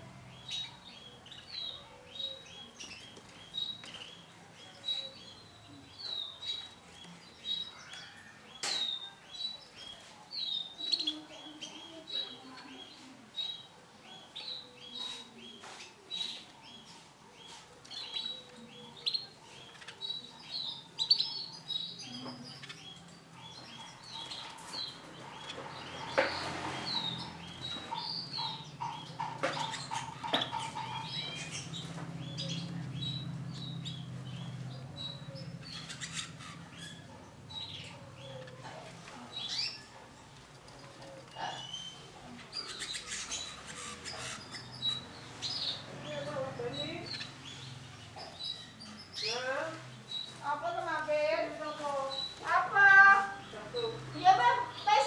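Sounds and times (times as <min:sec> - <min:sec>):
canary chirping: 0:00.0 - 0:55.0.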